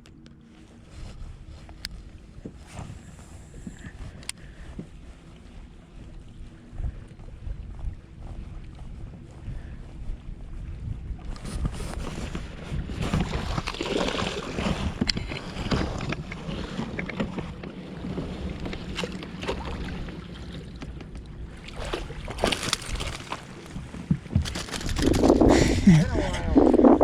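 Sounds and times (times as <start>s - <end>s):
water moving around kayak: 0.1s - 27.0s
wind noise on microphone: 0.8s - 19.0s, 21.7s - 27.0s.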